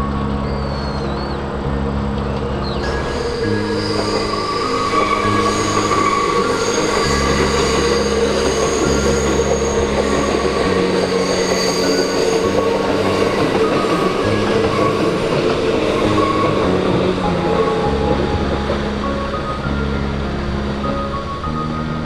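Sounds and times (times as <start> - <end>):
background music: 0.0 - 22.0
train running rumble: 0.0 - 22.0
wheels squealing: 0.0 - 22.0.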